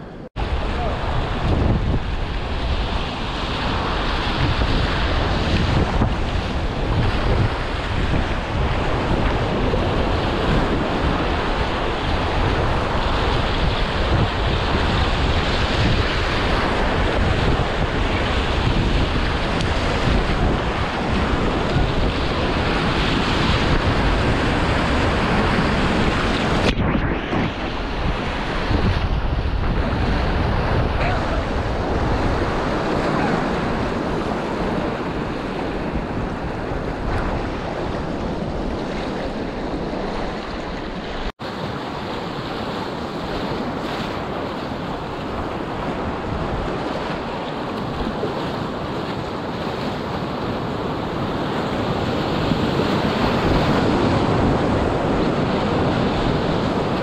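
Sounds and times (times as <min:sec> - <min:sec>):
whitewater rapids rushing: 0:00.0 - 0:57.0.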